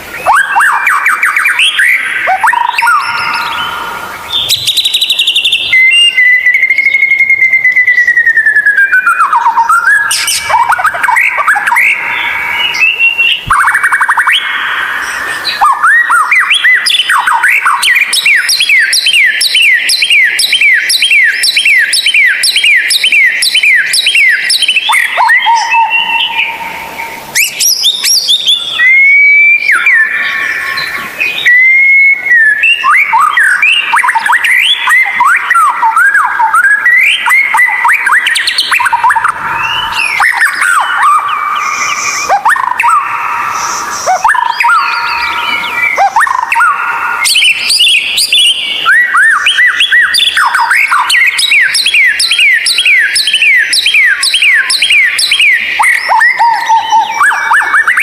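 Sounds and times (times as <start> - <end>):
songbird singing whistles: 0.0 - 58.0.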